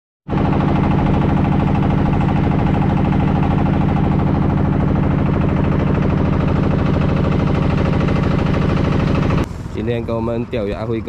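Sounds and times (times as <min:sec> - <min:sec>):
boat engine running: 0:00.3 - 0:11.0.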